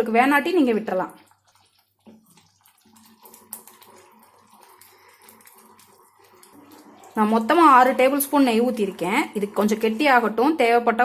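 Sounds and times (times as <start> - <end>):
ladle scraping thick paste: 0.9 - 10.2.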